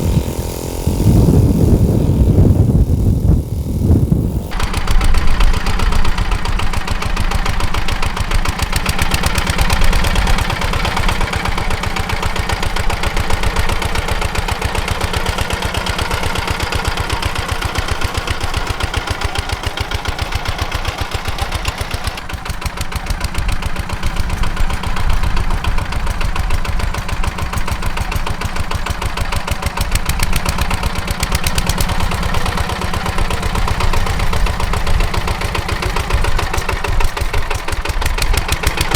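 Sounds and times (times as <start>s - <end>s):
rotary tiller working soil: 0.0s - 38.9s
tractor engine running under load: 0.0s - 38.9s.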